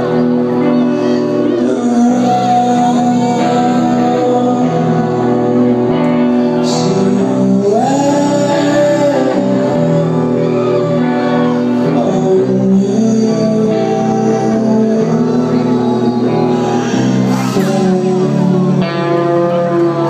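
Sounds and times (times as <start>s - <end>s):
electric guitar: 0.0s - 20.0s
man singing: 0.0s - 20.0s.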